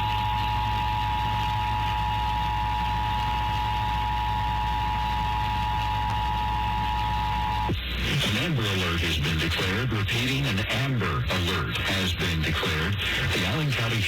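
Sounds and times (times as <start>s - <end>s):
broadcast hiss and hum: 0.0s - 14.0s.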